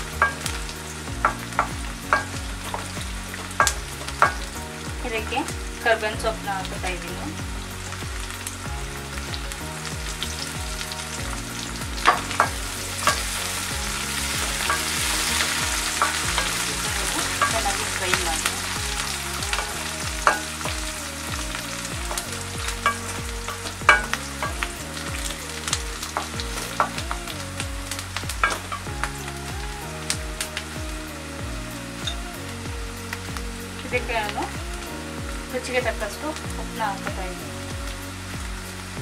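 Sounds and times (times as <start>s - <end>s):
food sizzling in oil: 0.0s - 39.0s
soft background music: 0.0s - 39.0s.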